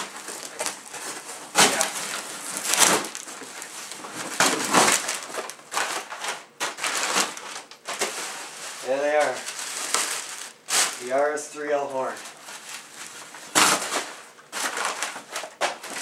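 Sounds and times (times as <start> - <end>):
cardboard crackling and rustling: 0.0 - 11.2, 12.1 - 16.0.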